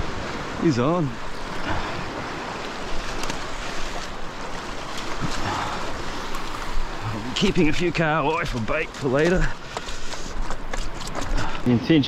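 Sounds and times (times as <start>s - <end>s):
sea surf washing over rocks: 0.0s - 12.0s.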